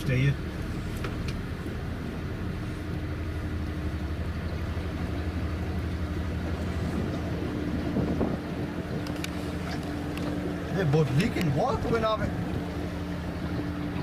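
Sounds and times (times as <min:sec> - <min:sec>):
electric boat motor humming: 0:00.3 - 0:14.0.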